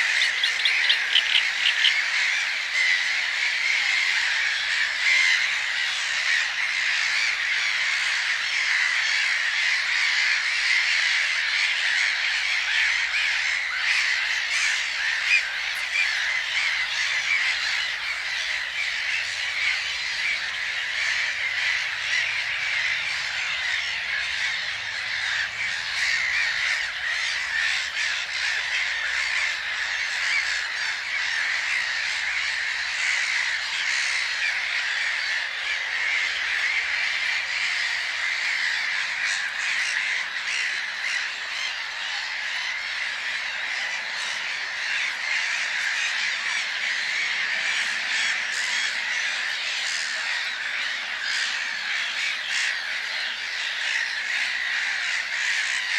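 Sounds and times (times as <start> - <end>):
birds squawking and cawing: 0.0 - 55.9.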